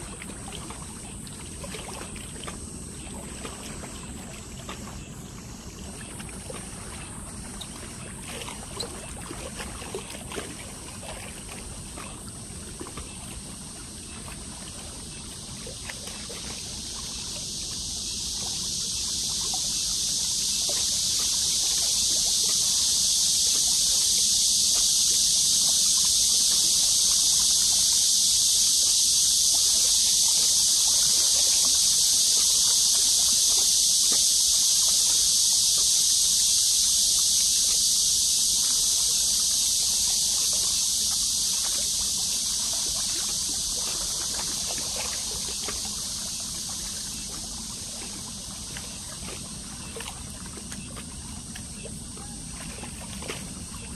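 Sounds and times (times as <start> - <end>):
high-pitched hiss: 0.0 - 53.9.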